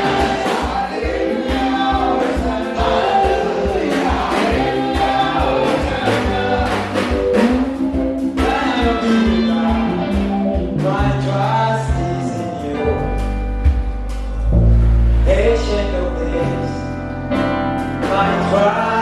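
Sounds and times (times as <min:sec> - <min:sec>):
band with steady drum beat: 0:00.0 - 0:16.7, 0:17.7 - 0:19.0
gospel singers holding long notes: 0:00.0 - 0:19.0.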